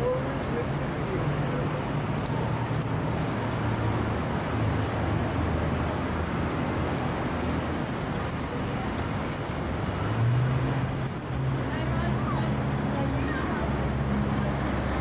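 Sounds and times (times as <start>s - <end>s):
passing cars and buses: 0.0s - 15.0s.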